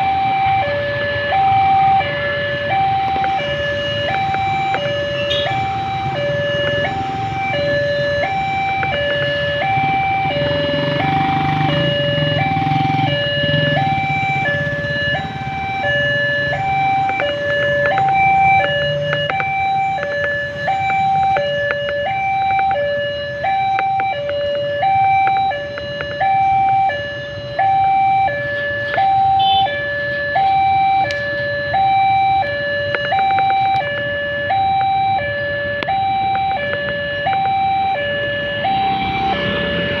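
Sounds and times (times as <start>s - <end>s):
two-tone level crossing siren: 0.0s - 40.0s.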